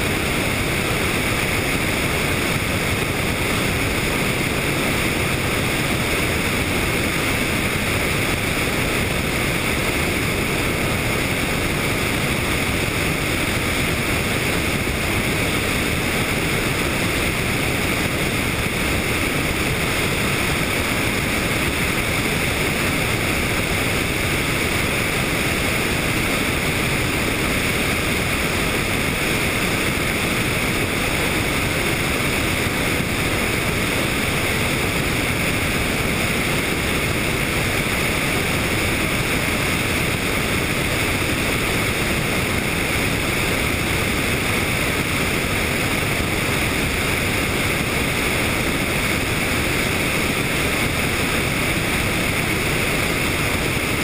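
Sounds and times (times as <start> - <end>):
helicopter in flight: 0.0 - 54.0.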